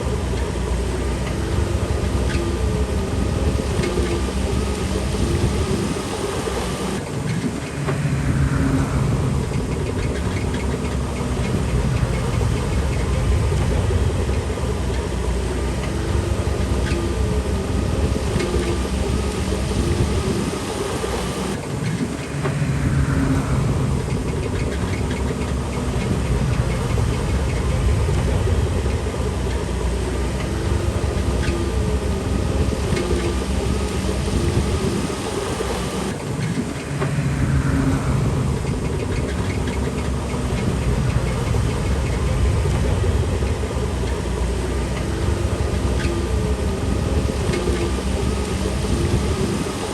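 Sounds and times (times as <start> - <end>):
bulldozer diesel engine running: 0.0 - 49.9
falling whine: 0.0 - 49.9
tracks clanking: 0.0 - 49.9.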